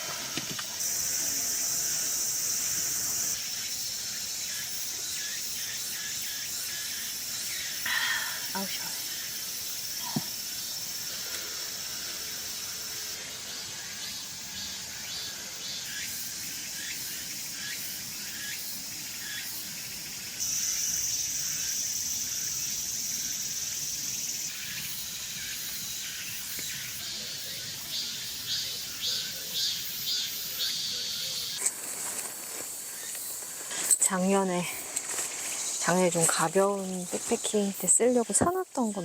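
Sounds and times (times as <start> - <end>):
cicadas buzzing: 0.0 - 39.0
pulsing cicada calls: 0.0 - 39.0.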